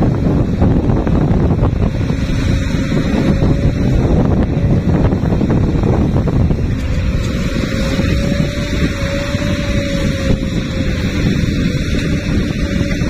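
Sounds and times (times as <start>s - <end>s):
dump truck diesel engine: 0.0s - 13.0s
wind on microphone: 0.0s - 13.0s.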